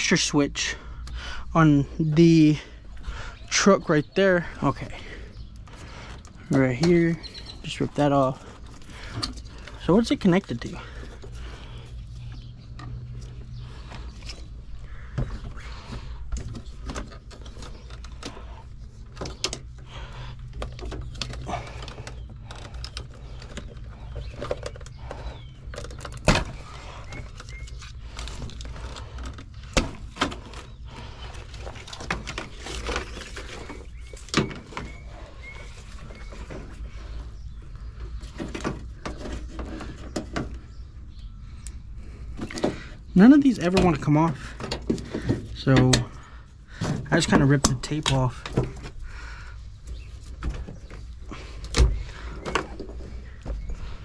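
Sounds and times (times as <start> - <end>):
steady low hum: 0.0 - 54.0
clicks and rustling of wiring: 1.0 - 54.0.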